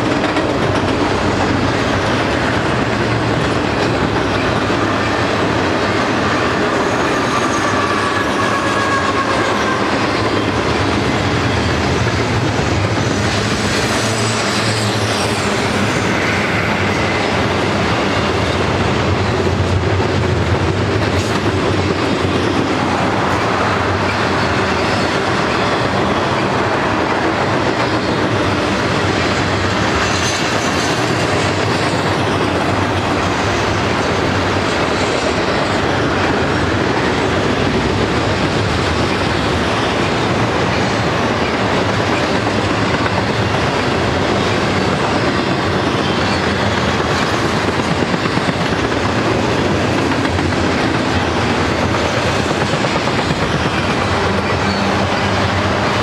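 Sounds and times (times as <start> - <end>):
train wheels clattering on rail: 0.0 - 56.0.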